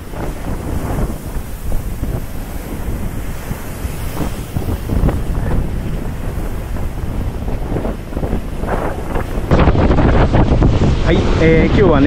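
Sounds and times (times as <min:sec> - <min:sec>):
surf breaking on a beach: 0:00.0 - 0:12.0
wind buffeting microphone: 0:00.0 - 0:12.0.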